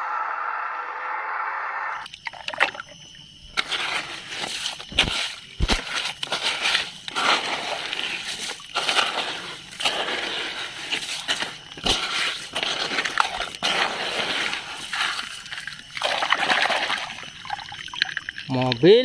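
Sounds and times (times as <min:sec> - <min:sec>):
water swishing and sloshing: 0:02.0 - 0:18.8.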